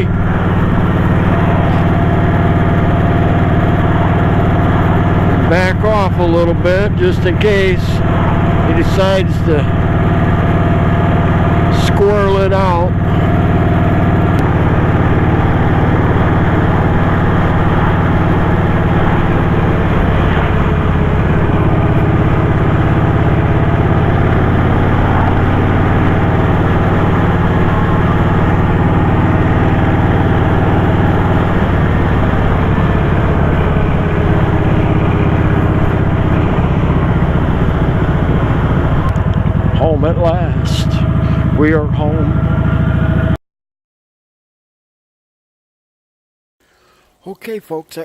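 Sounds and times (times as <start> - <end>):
motorcycle engine running: 0.0 - 43.4
road and wind noise: 0.0 - 43.4.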